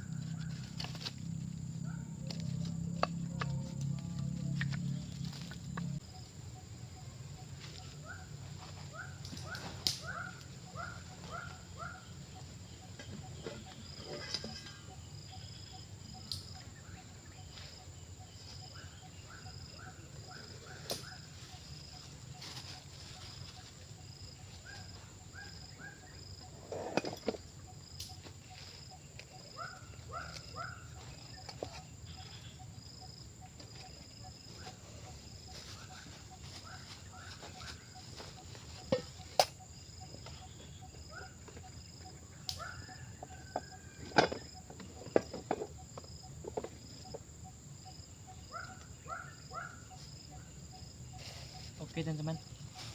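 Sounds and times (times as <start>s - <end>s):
insects buzzing: 0.0s - 52.9s.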